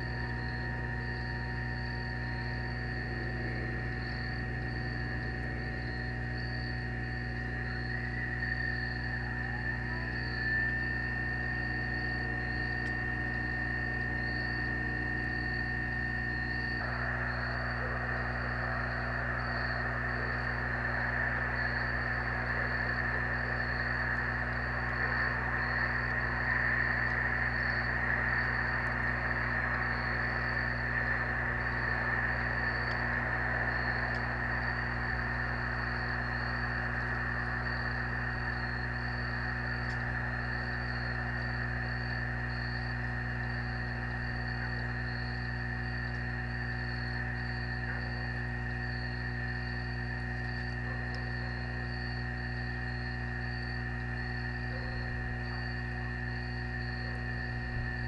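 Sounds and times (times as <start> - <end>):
insect chorus: 0.0 - 58.0
low electrical hum: 0.0 - 58.0
pulsing insect chirp: 0.0 - 58.0.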